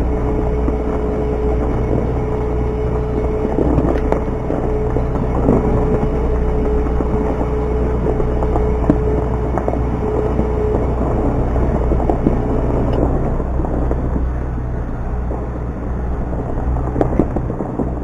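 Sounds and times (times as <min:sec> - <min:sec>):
steady whine: 0:00.0 - 0:18.0
tractor engine rumbling: 0:00.0 - 0:18.0.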